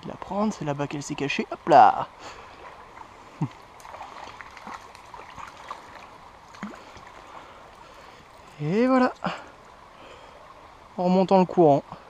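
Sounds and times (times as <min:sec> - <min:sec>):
small stream trickling: 0:00.0 - 0:12.0.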